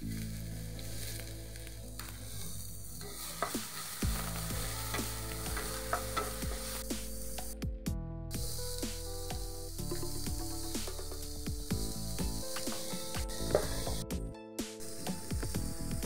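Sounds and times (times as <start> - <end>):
onions sizzling in oil: 0.0 - 7.6, 8.4 - 14.0.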